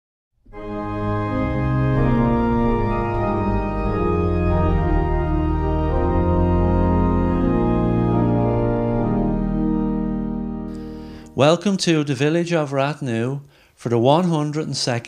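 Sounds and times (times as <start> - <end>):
slow instrumental music with held chords: 0.5 - 12.9.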